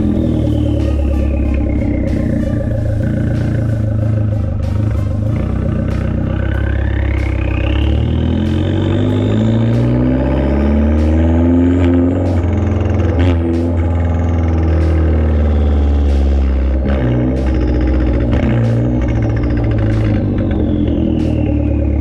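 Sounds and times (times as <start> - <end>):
loud car engine revving: 0.0 - 22.0
turbo whine: 0.0 - 22.0.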